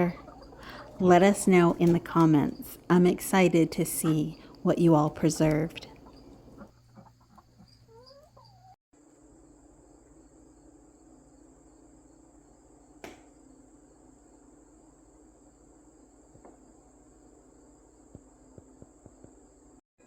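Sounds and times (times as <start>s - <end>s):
crickets trilling: 0.0s - 19.8s.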